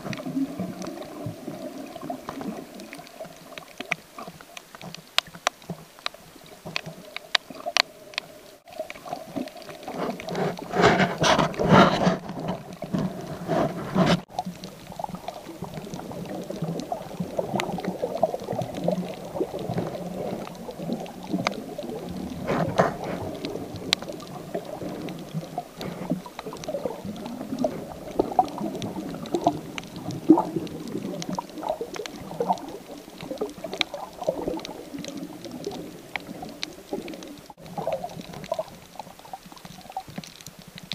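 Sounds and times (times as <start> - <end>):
sharp clicks underwater: 0.0 - 40.9
water sloshing and bubbling: 0.0 - 40.9.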